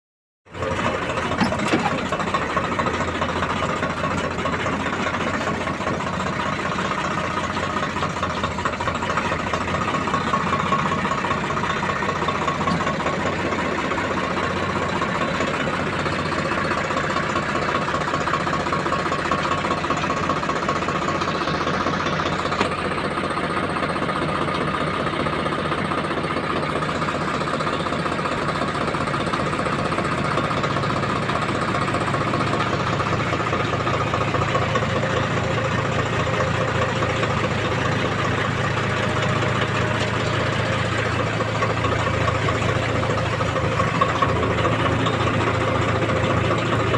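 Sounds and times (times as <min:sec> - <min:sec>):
tractor diesel engine running: 0:00.5 - 0:46.9.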